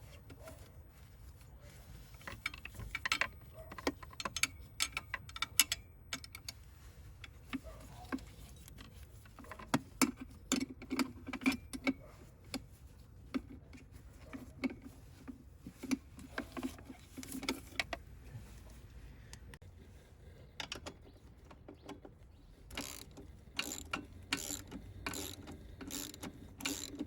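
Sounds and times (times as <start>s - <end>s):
hand tools and metal parts clicking: 1.8s - 18.1s, 20.4s - 27.0s.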